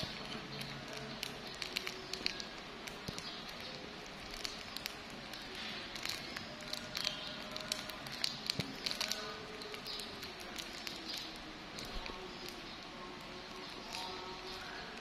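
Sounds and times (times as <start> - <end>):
plastic wrapper crackling: 0.0 - 15.0.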